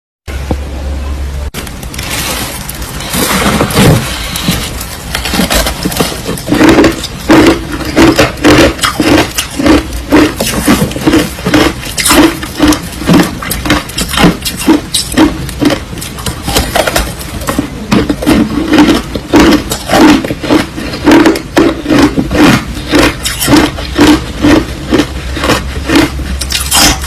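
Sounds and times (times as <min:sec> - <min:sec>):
crushed ice being chewed: 0:02.0 - 0:27.0.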